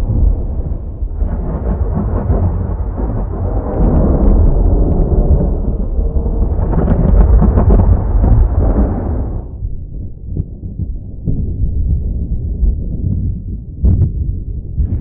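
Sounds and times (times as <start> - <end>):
thunder rumbling with crackles: 0.0 - 15.0.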